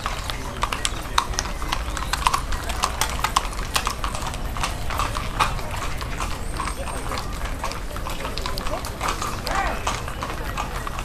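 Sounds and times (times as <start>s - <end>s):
cattle hooves on pavement: 0.0s - 11.0s.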